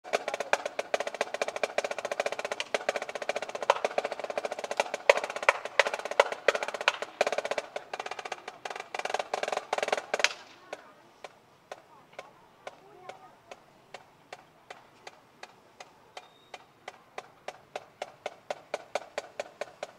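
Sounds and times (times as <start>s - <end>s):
snare drum rolls: 0.0s - 19.9s.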